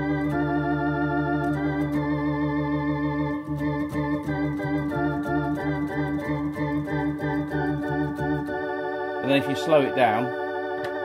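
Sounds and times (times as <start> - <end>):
organ chords with rotary warble: 0.0 - 11.0.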